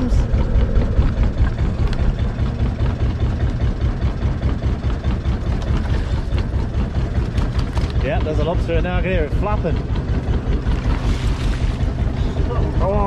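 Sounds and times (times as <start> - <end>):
motor rumbling: 0.0 - 13.0.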